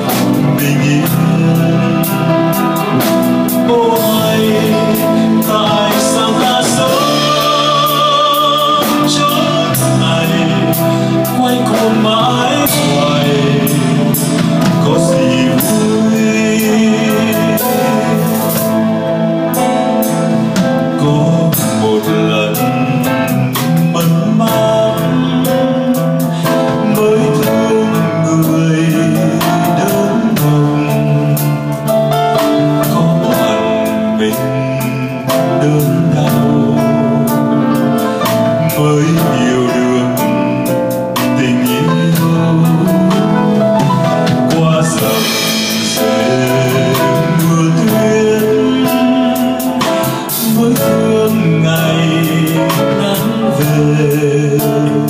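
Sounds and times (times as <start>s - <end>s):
live band playing ballad: 0.0s - 55.0s
man singing: 0.0s - 55.0s.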